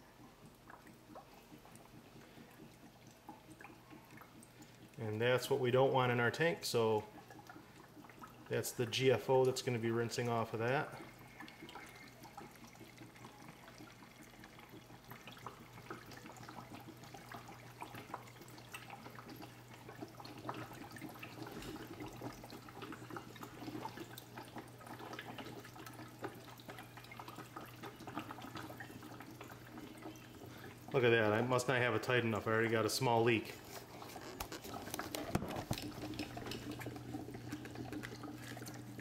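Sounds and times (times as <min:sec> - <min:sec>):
small drips and crackles: 0:00.0 - 0:39.0
water trickling and bubbling: 0:00.0 - 0:39.0.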